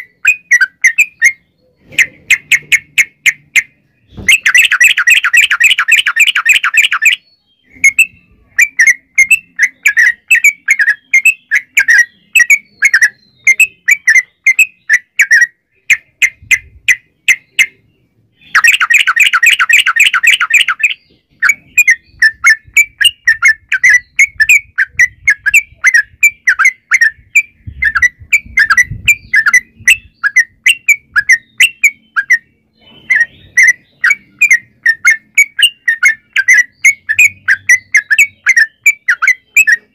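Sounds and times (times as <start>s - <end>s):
bird singing chattering notes: 0.0s - 39.9s
fast rolling bird trill: 0.0s - 39.9s.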